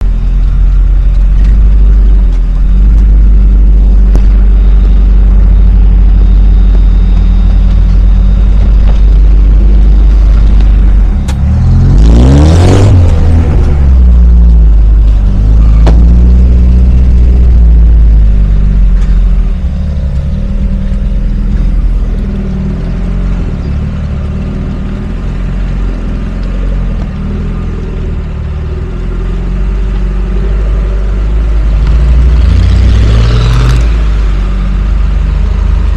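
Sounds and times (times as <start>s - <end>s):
car engine running off-road: 0.0s - 35.9s.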